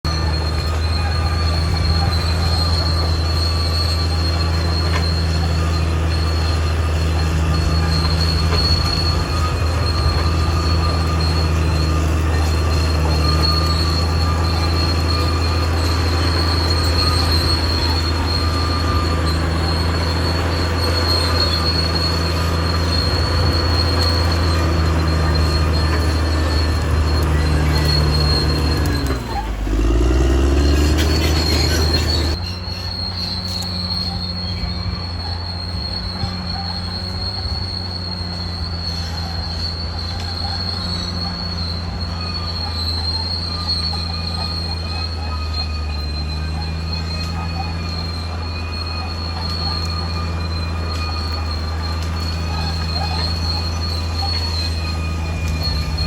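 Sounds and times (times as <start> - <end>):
bulldozer diesel engine running: 0.0 - 56.0
metallic squeal of steel tracks: 0.1 - 56.0.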